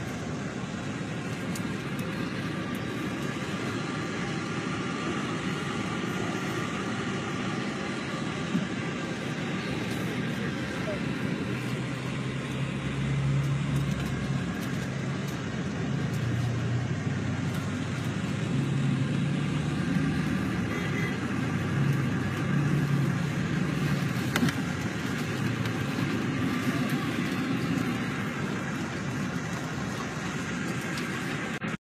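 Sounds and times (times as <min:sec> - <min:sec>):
bus engine hum: 0:00.0 - 0:31.8
road noise: 0:00.0 - 0:31.8.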